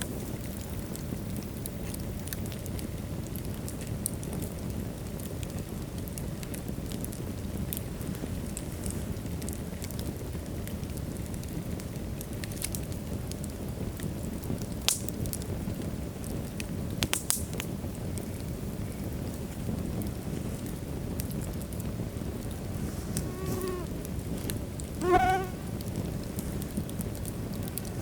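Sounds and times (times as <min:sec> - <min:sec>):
rumble of flames: 0:00.0 - 0:28.0
wood crackling and popping: 0:00.0 - 0:28.0.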